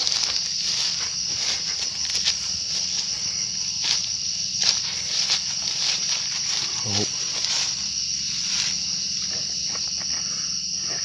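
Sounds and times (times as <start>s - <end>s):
footsteps through grass: 0.0s - 11.0s
insects chirring: 0.0s - 11.0s.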